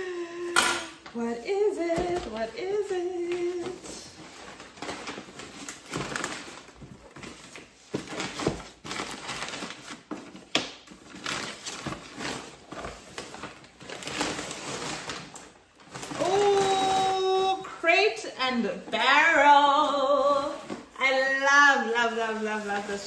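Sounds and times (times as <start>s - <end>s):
wrapping paper rustling: 0.0s - 18.2s, 18.8s - 23.0s.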